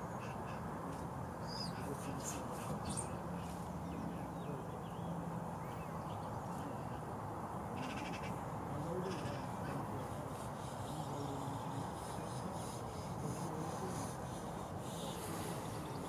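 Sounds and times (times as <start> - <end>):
small birds chirping: 0.0 - 7.1, 7.7 - 16.0.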